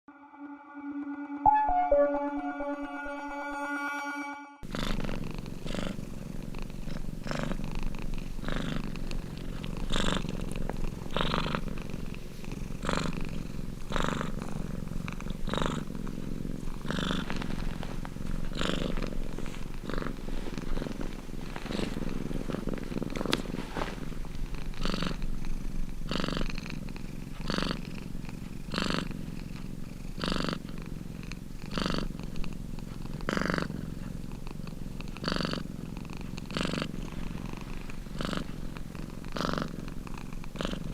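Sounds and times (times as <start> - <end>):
cat purring: 4.6 - 40.9.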